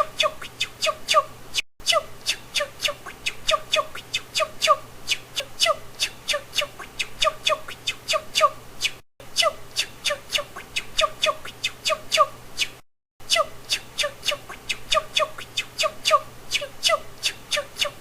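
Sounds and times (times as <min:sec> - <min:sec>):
person making squawk-like chirps: 0:00.0 - 0:18.0.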